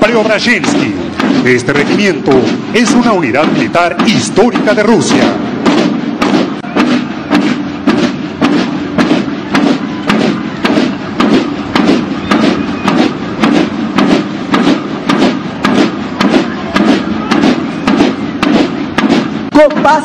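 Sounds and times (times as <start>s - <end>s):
marching drums beating: 0.0s - 20.0s.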